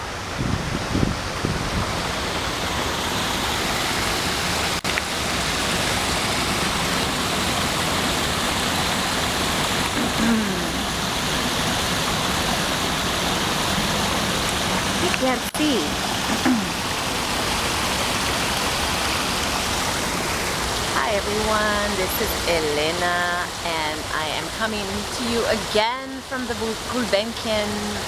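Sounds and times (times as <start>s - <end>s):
garden waterfall splashing: 0.0s - 28.0s.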